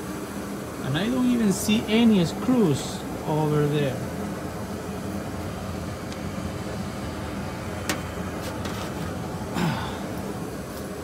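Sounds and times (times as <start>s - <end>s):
gas furnace humming: 0.0s - 11.0s.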